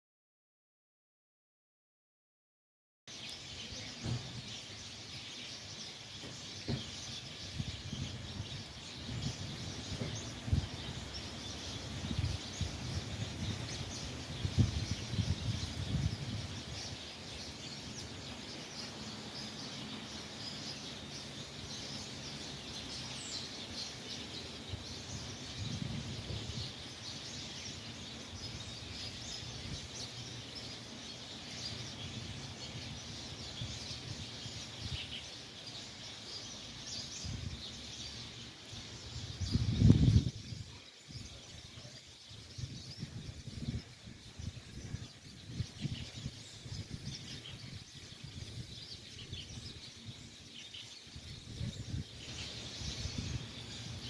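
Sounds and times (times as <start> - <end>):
small birds chirping: 3.1 - 54.0.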